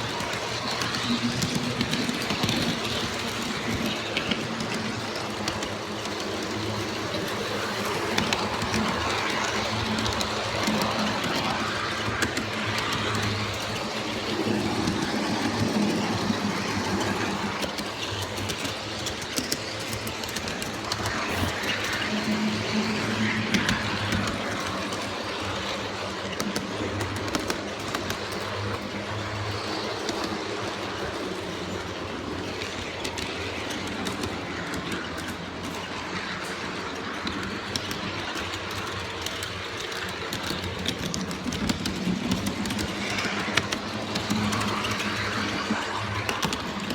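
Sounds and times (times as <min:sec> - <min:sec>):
model train rolling: 0:00.0 - 0:46.9.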